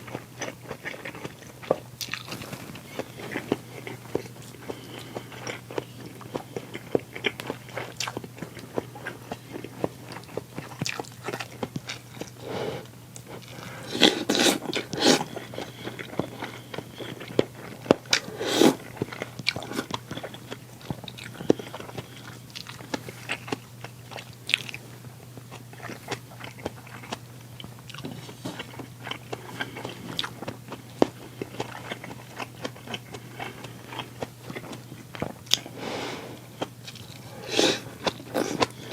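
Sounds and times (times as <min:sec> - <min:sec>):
faint electrical hum: 0:00.0 - 0:38.9
person chewing: 0:00.0 - 0:38.9.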